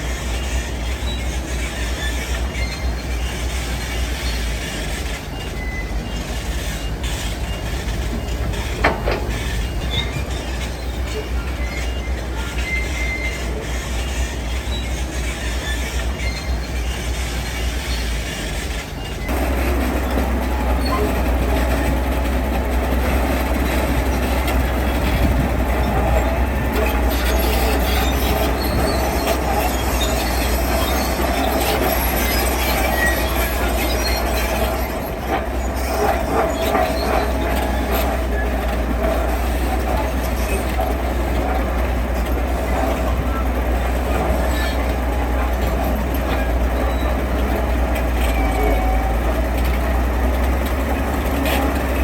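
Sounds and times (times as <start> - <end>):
diesel machinery rumbling: 0.0 - 52.0.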